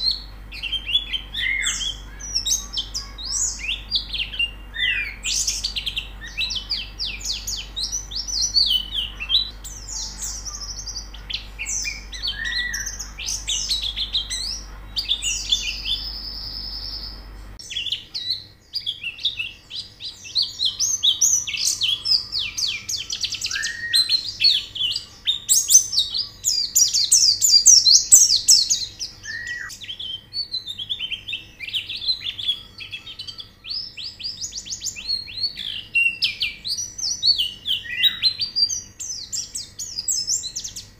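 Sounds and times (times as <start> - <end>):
birds twittering and trilling: 0.0 - 40.9
low background hum: 0.0 - 40.9.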